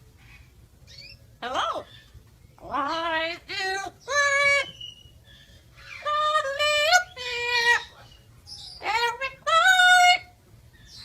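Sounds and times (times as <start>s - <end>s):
parrot calling: 0.9s - 11.0s.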